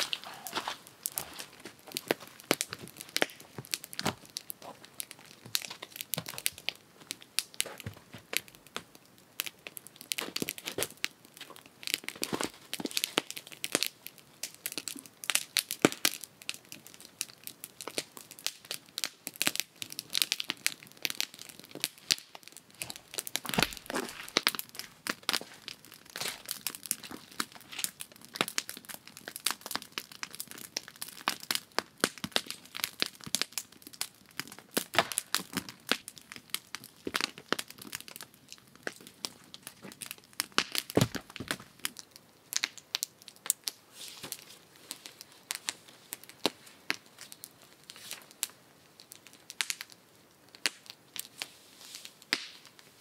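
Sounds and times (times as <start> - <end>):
raindrops hitting a tarp: 0.0 - 53.0.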